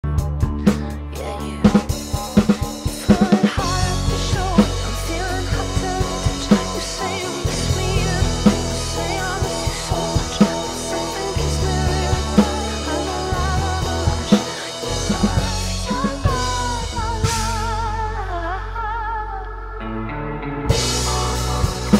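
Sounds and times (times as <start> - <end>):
acoustic drum kit: 0.0 - 18.4, 20.7 - 21.9
slow pop song with woman singing: 0.0 - 21.9.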